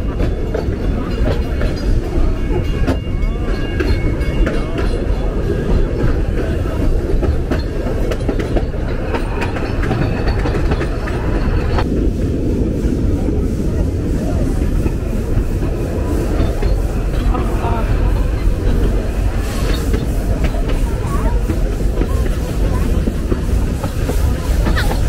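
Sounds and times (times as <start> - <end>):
wheels clicking over rails: 0.0 - 11.9, 14.6 - 25.0
train rumble: 0.0 - 25.0.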